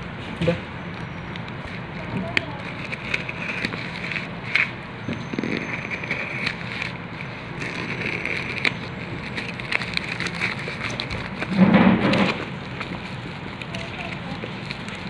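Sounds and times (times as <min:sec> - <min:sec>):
parcel wrapping crackling: 0:00.7 - 0:15.0
bubble wrap crinkling: 0:00.9 - 0:15.0.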